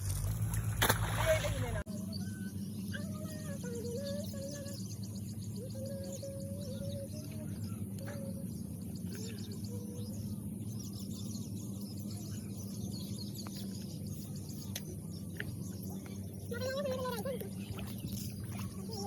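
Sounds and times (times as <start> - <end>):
low outdoor background hum: 0.0 - 19.0
birds chirping: 0.8 - 19.0.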